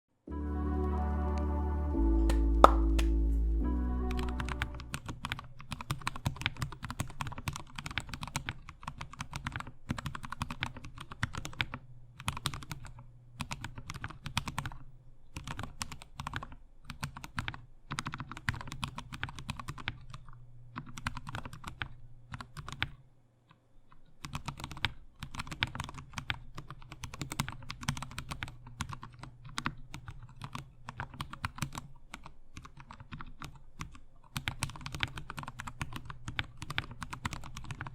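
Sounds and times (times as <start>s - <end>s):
mechanical keyboard typing: 4.0s - 23.0s, 24.2s - 37.9s.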